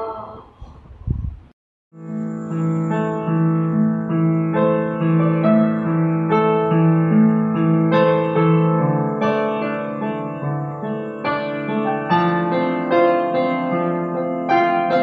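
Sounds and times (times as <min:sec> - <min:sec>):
child playing piano melody: 0:02.0 - 0:15.0.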